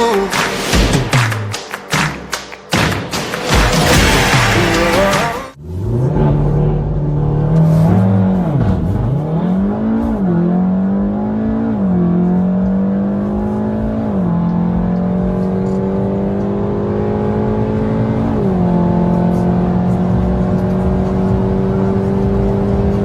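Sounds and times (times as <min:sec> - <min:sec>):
car engine accelerating hard: 0:03.8 - 0:23.0.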